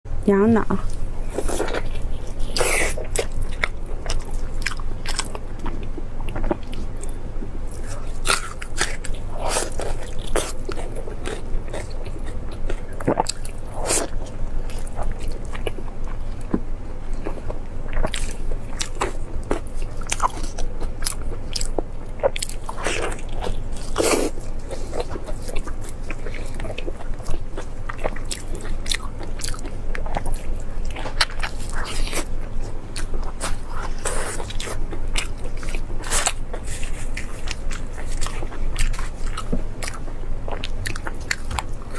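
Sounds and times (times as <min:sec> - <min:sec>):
low steady hum: 0:00.1 - 0:41.9
chewing crunchy food: 0:00.8 - 0:41.9.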